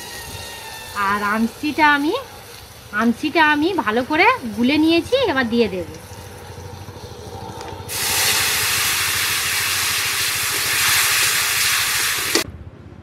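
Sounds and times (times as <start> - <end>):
liquid sizzling in hot oil: 0.0 - 12.4.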